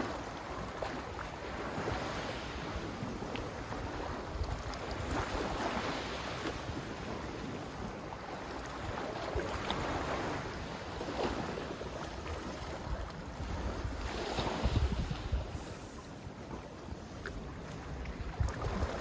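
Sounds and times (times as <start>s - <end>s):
sea waves washing in: 0.0s - 19.0s
wind rumbling on microphone: 0.0s - 19.0s.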